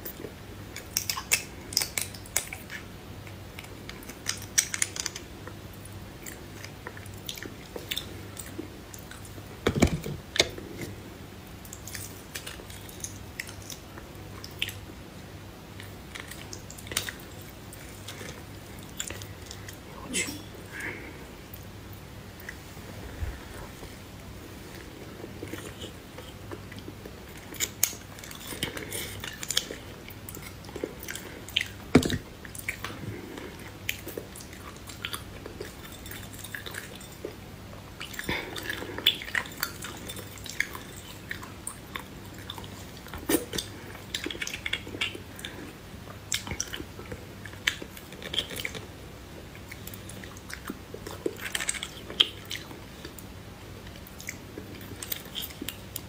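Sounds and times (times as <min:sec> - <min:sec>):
wet chewing and smacking: 0:00.0 - 0:11.0, 0:11.6 - 0:19.8, 0:23.4 - 0:56.0.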